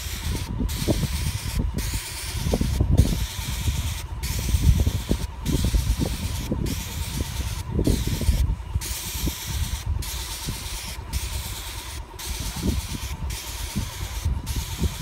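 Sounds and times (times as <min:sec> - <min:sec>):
paint sprayer hissing: 0:00.0 - 0:15.0.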